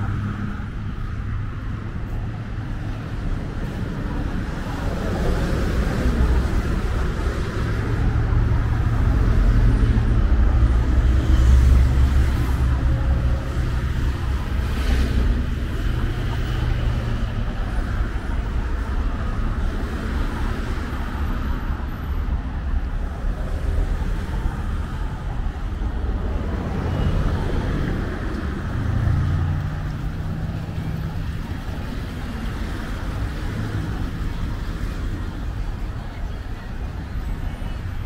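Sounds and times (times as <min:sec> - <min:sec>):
highway traffic passing: 0:00.0 - 0:38.0
vehicle engine hum: 0:00.0 - 0:38.0.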